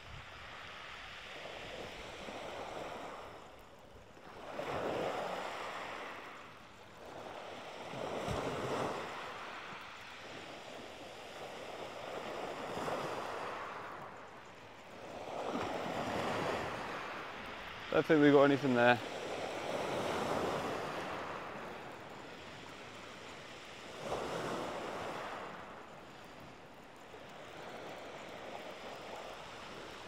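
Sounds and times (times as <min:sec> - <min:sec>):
waves washing over pebbles: 0:00.0 - 0:30.0.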